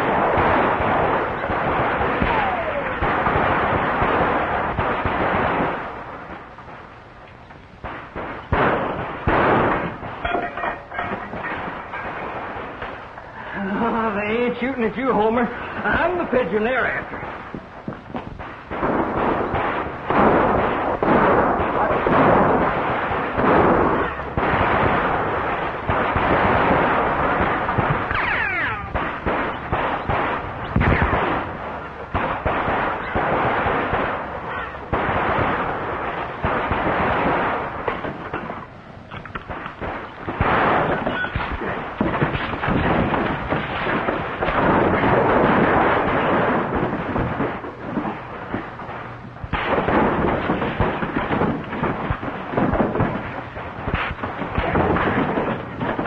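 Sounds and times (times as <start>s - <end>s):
pistol shots with echo: 0.0s - 56.0s.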